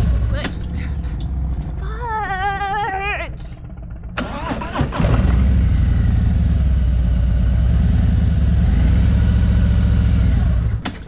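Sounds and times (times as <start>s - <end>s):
motorcycle engine revving: 0.0s - 1.9s, 3.7s - 10.8s.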